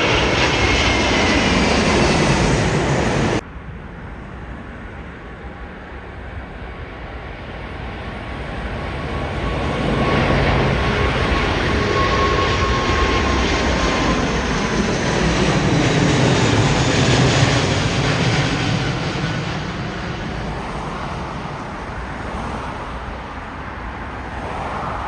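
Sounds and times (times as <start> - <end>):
jet engines roaring: 0.0 - 3.5, 4.1 - 25.0.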